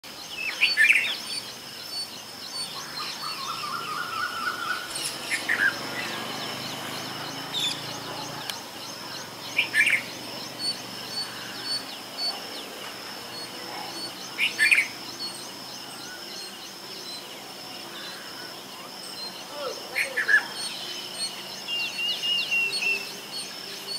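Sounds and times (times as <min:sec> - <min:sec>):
high background chirping: 0:00.0 - 0:23.9.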